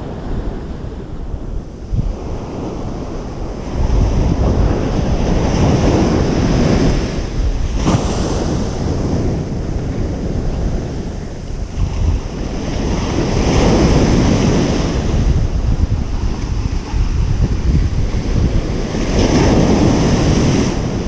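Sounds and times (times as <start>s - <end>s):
ocean surf breaking on beach: 0.0s - 21.0s
wind rumble on microphone: 0.0s - 21.0s.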